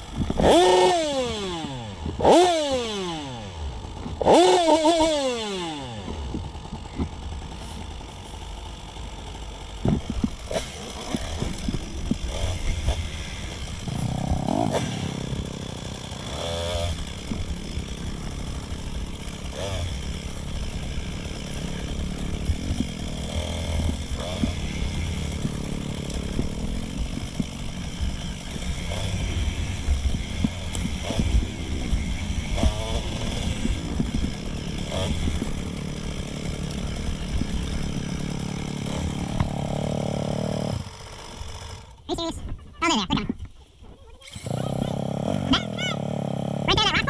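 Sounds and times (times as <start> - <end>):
dirt bike engine revving: 0.0 - 43.4, 44.2 - 47.0.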